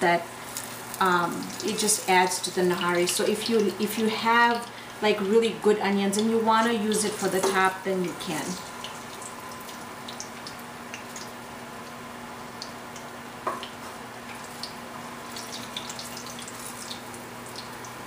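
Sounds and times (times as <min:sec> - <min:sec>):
hot oil crackling and popping: 0:00.0 - 0:18.0.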